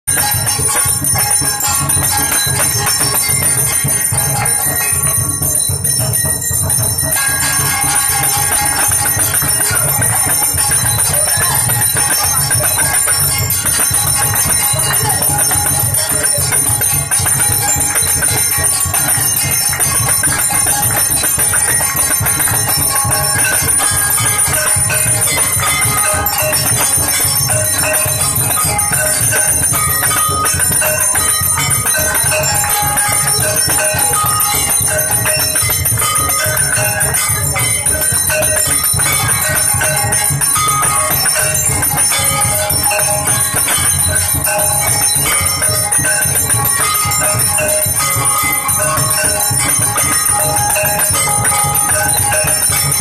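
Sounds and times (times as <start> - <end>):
temple bells ringing: 0.0 - 53.0.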